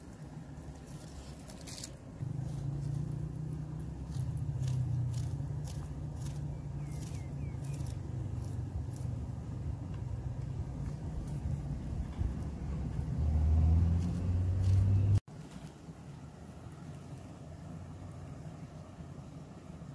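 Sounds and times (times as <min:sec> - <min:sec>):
low steady rumble: 0:00.0 - 0:19.9.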